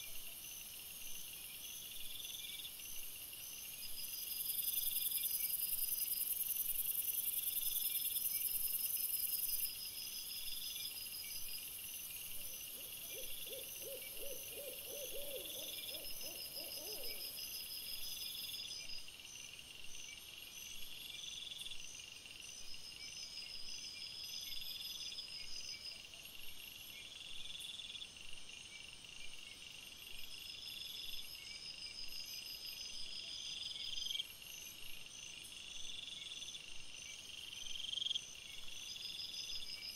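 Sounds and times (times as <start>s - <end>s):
crickets chirping: 0.0s - 39.9s
lower rapid insect calls: 0.0s - 39.9s.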